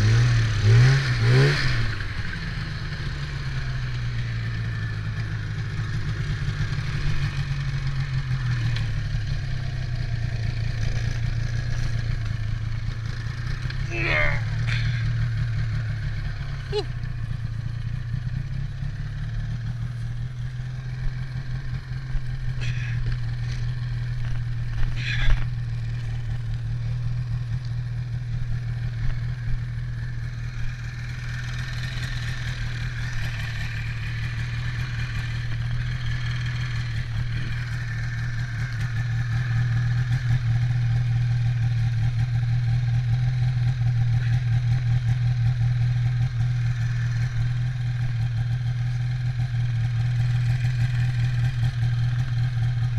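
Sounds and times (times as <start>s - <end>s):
snowmobile engine idling: 0.0s - 52.9s.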